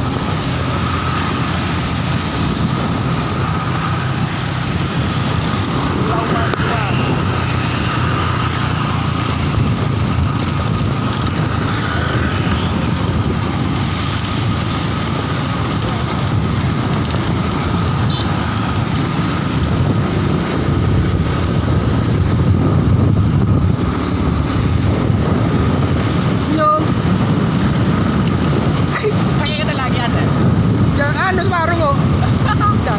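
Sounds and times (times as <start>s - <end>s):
motorcycle engine: 0.0s - 32.9s
road noise: 0.0s - 32.9s
wind rushing over microphone: 0.0s - 32.9s.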